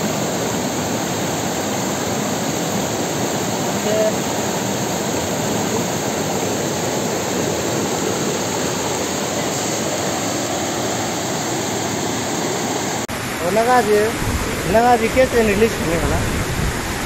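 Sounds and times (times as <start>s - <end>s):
stream rushing over boulders: 0.0s - 17.0s.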